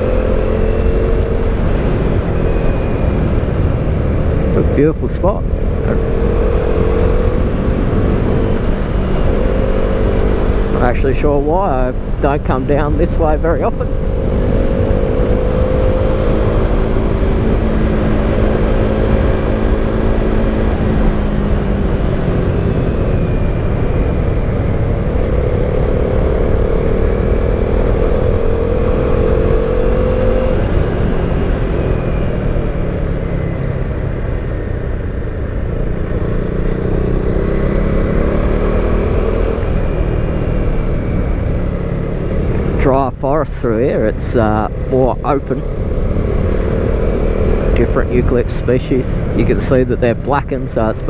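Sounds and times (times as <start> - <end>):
motorcycle engine revving: 0.0 - 51.0
wind noise: 0.0 - 51.0.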